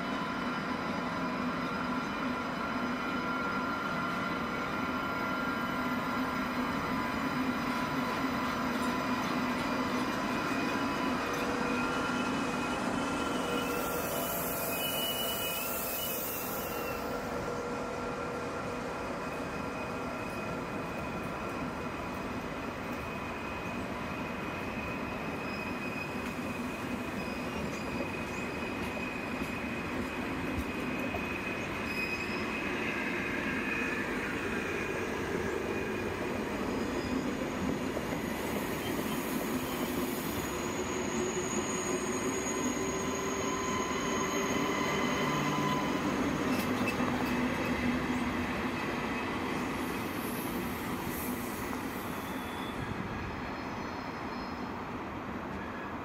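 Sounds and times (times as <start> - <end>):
train rumble: 0.0 - 56.0
train wheels squealing: 0.0 - 56.0.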